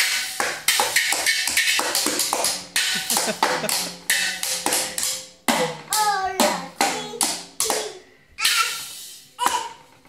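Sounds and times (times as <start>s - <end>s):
toy drum kit struck: 0.0s - 9.8s.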